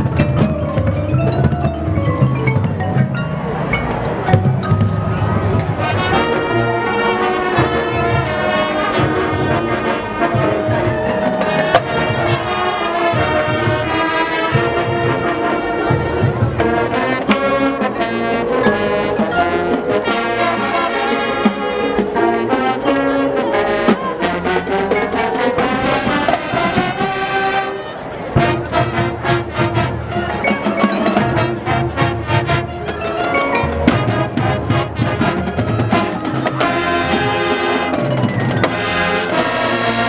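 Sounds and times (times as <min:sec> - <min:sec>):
drumline percussion: 0:00.0 - 0:40.0
brass section playing chords: 0:05.1 - 0:40.0.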